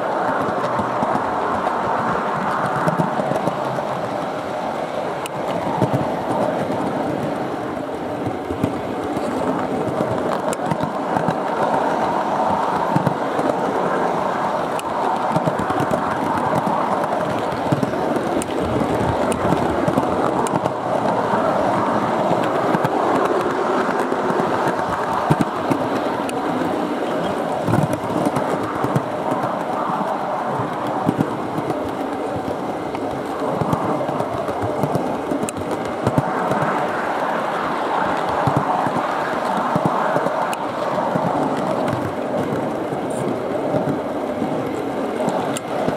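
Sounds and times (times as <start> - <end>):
model train wheels rumbling on rail: 0.0 - 45.9.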